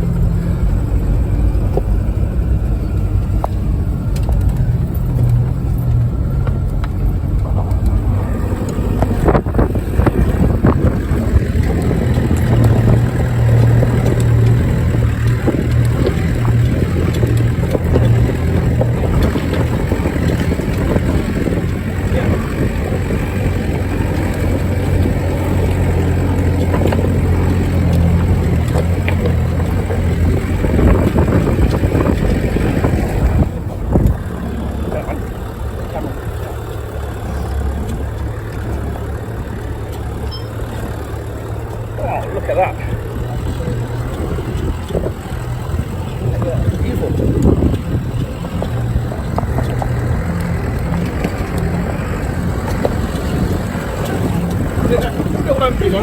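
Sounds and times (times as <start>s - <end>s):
engine running at low revs: 0.0s - 56.0s
rocks knocking and rattling: 0.0s - 56.0s.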